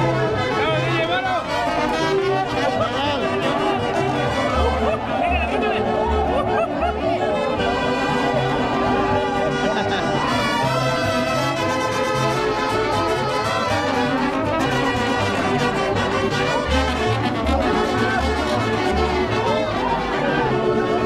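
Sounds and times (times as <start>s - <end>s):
brass band music: 0.0s - 21.0s.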